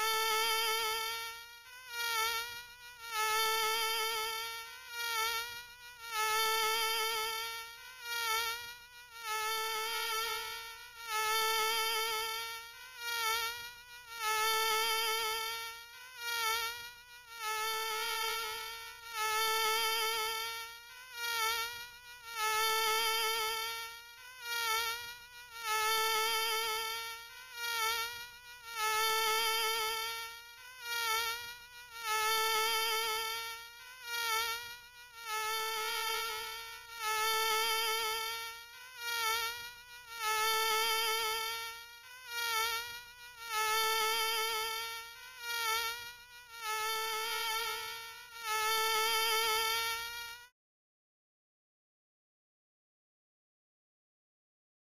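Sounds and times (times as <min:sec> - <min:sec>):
mosquito whine: 0:00.0 - 0:50.6.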